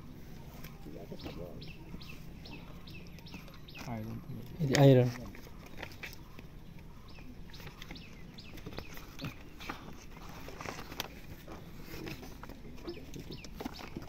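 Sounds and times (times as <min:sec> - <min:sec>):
bird chirps: 0:00.3 - 0:10.1, 0:12.1 - 0:14.0.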